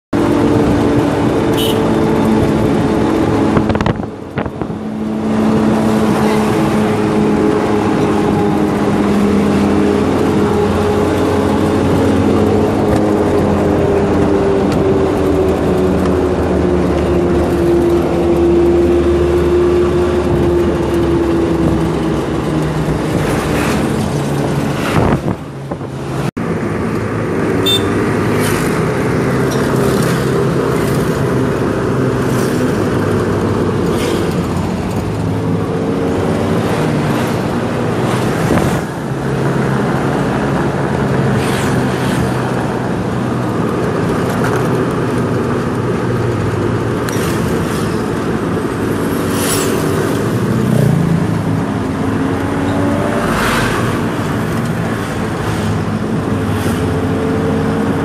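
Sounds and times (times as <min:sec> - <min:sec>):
engine and road noise: 0:00.1 - 0:58.0.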